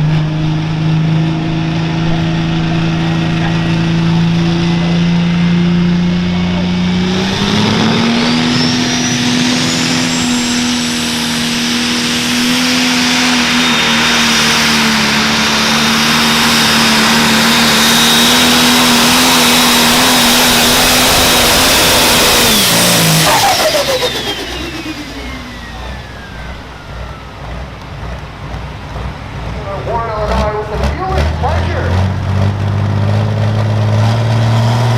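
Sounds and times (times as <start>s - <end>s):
diesel tractor engine full throttle: 0.0s - 34.9s
high turbo whine: 0.0s - 34.9s.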